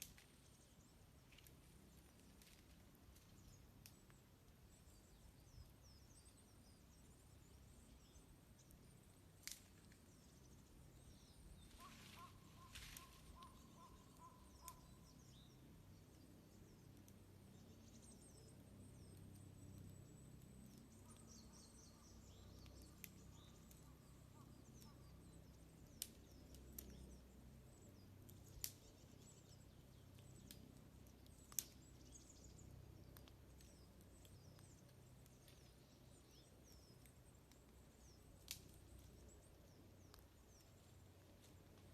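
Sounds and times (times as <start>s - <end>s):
small birds chirping: 0.0s - 41.9s
wood fire crackling: 0.0s - 41.9s.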